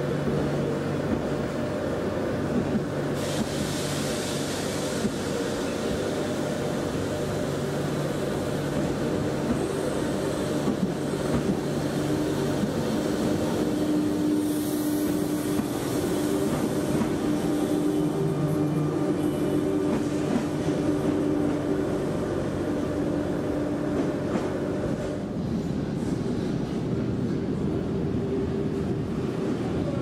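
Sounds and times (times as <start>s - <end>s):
train wheel-on-rail rumble: 0.0s - 30.0s.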